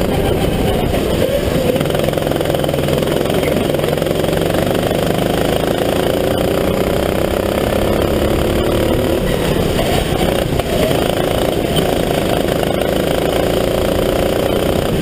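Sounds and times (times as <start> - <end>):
kart engine running hard: 0.0 - 15.0.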